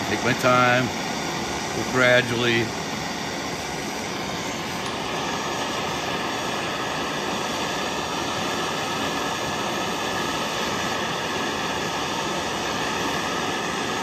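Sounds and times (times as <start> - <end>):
propane torch hissing: 0.0 - 14.0.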